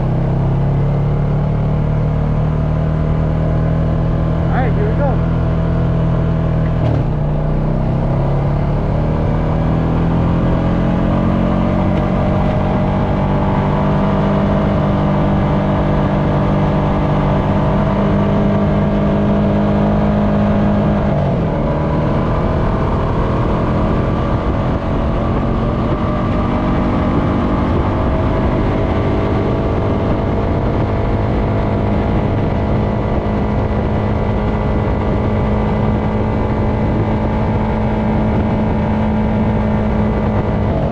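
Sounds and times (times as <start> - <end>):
wind and tyre noise: 0.0 - 40.9.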